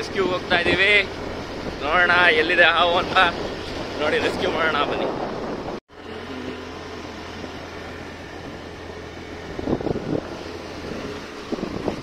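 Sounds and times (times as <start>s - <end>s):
vehicle hum and road noise: 0.0s - 12.0s.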